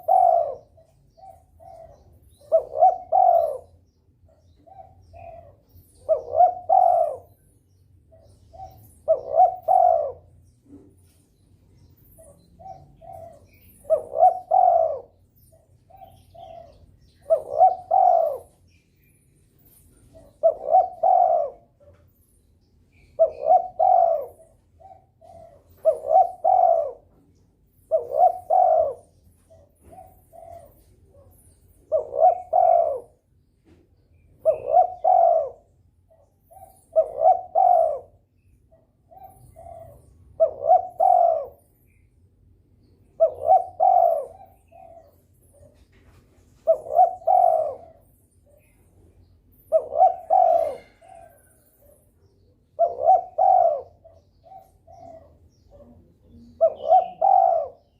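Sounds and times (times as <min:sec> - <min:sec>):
dove cooing: 0:00.0 - 0:22.3, 0:22.9 - 0:42.0, 0:43.0 - 0:57.9.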